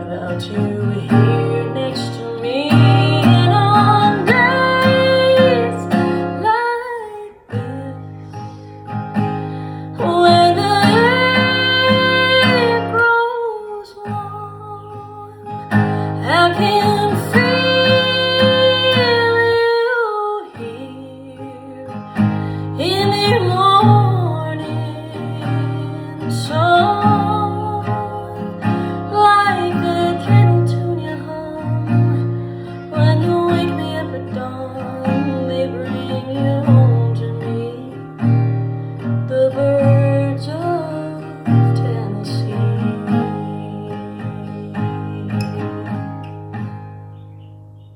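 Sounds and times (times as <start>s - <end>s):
strummed acoustic guitar: 0.0s - 47.9s.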